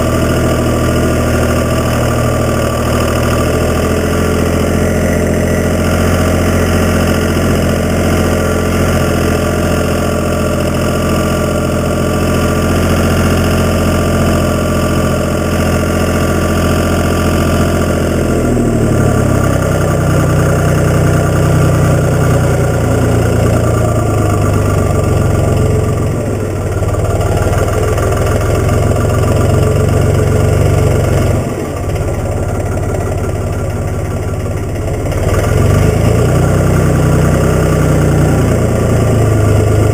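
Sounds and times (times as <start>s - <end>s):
tractor engine idling and revving: 0.0s - 39.9s.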